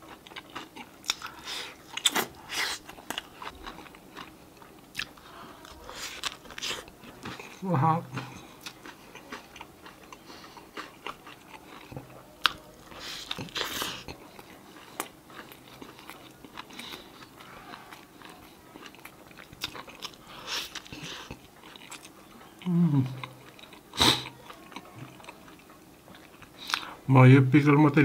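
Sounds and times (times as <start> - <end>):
person chewing and crunching: 0.0 - 27.0.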